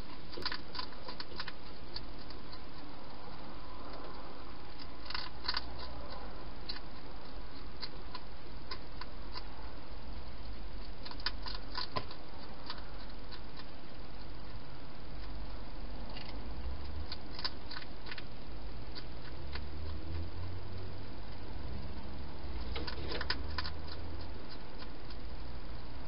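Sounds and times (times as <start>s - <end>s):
hedgehog eating clicks: 0.0s - 9.6s, 10.4s - 26.0s
steady hiss and hum: 0.0s - 26.0s.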